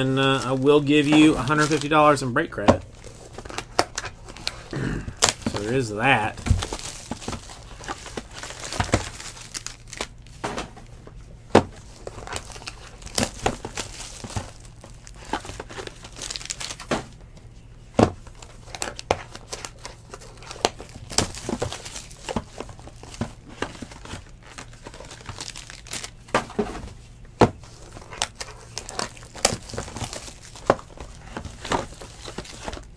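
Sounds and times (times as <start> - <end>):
plastic wrap crinkling: 0.0 - 10.4, 11.8 - 16.9, 18.2 - 26.3, 27.6 - 32.9.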